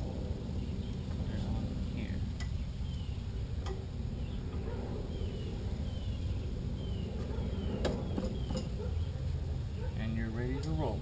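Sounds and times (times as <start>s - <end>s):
low rumble: 0.0s - 9.9s
bird chirping: 0.4s - 11.0s.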